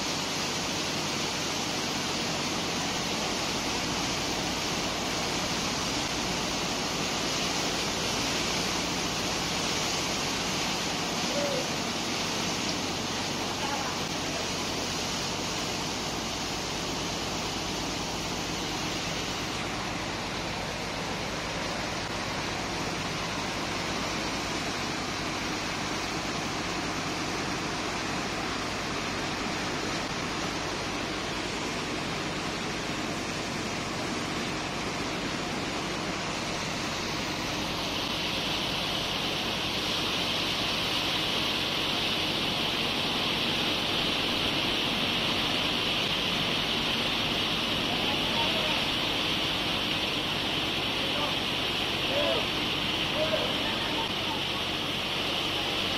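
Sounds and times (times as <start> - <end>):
high-pressure hose jet blasting: 0.0 - 55.9
slurry gushing from a pipe: 0.0 - 55.9.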